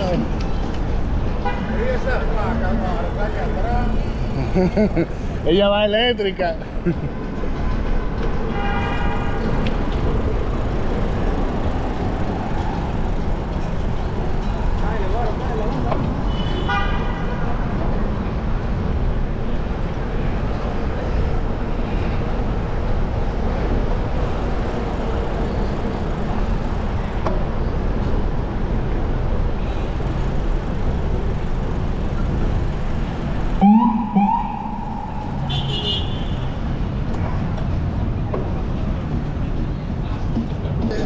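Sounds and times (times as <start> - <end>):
street traffic: 0.0 - 41.0.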